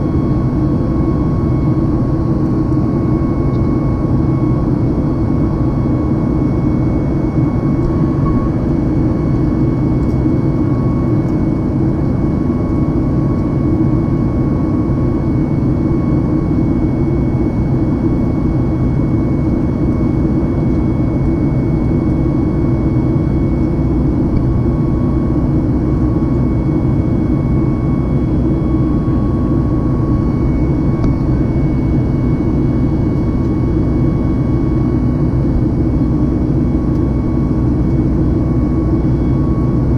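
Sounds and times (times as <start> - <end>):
faint high whine: 0.0 - 39.9
jet engine roar in cabin: 0.0 - 39.9.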